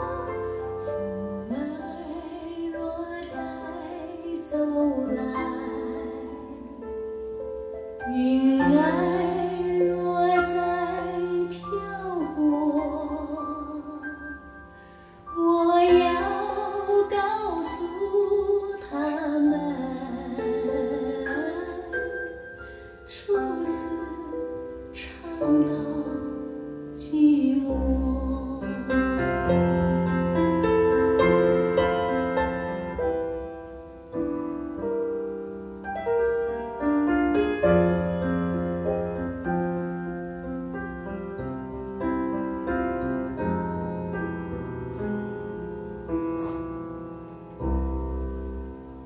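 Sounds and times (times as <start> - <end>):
piano ballad music: 0.0 - 49.0.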